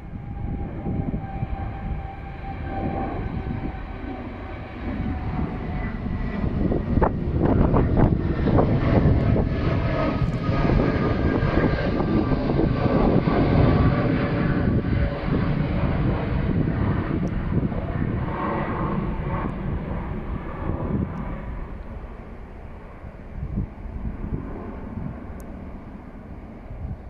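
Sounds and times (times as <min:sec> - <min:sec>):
jet engine rumble overhead: 0:00.0 - 0:27.0.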